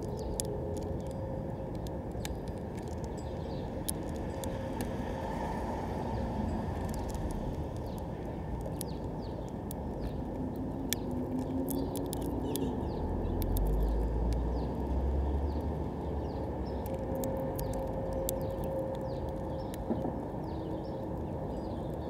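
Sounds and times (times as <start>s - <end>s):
finch cracking seeds: 0.0s - 22.0s.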